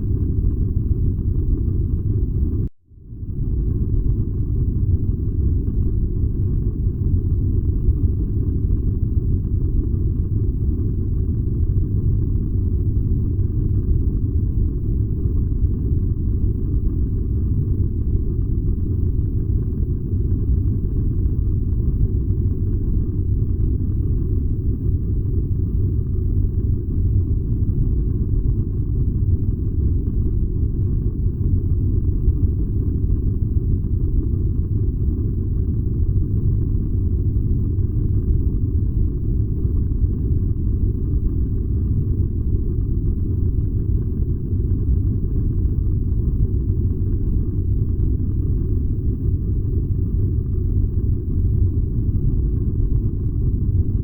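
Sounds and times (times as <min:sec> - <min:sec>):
furnace deep rumble: 0:00.0 - 0:54.0.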